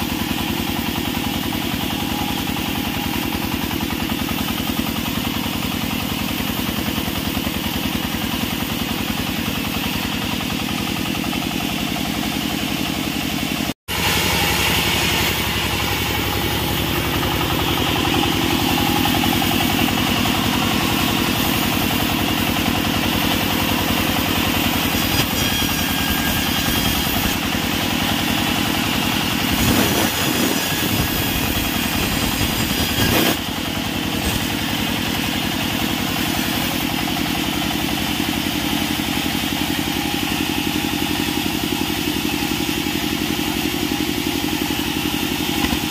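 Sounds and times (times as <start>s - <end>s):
band saw cutting wood: 0.0s - 45.9s.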